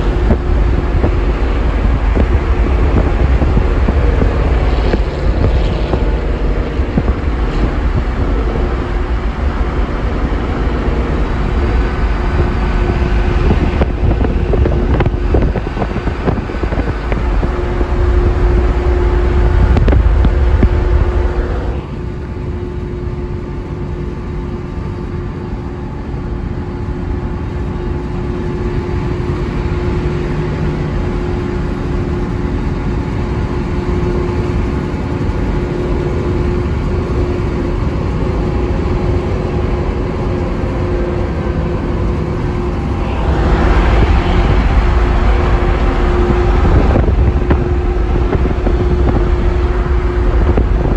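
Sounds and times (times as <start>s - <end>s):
car road and engine rumble: 0.0s - 50.9s
low hum: 0.0s - 50.9s
wind noise: 0.0s - 50.9s.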